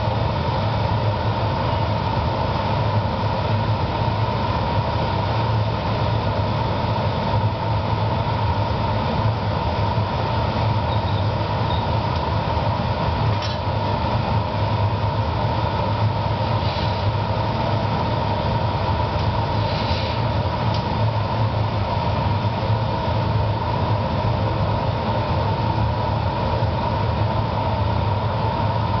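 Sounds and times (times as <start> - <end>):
furnace and blowers humming: 0.0 - 29.0.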